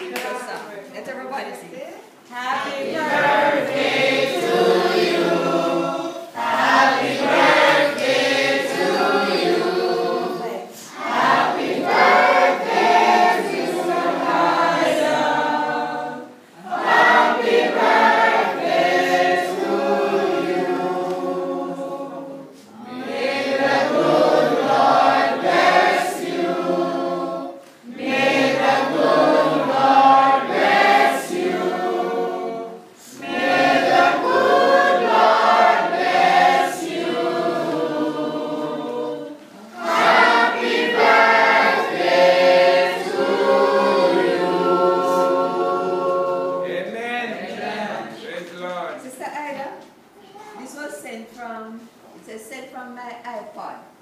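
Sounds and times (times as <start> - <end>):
group singing unaccompanied: 2.2 - 48.4.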